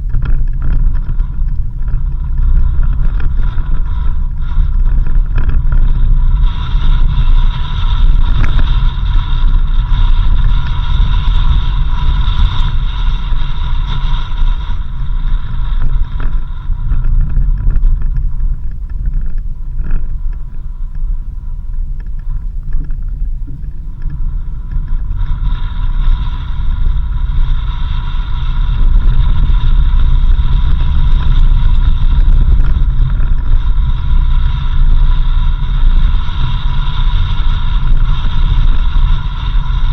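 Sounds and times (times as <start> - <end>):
car engine rumble: 0.0 - 39.9
tyre and wind hiss: 0.0 - 39.9.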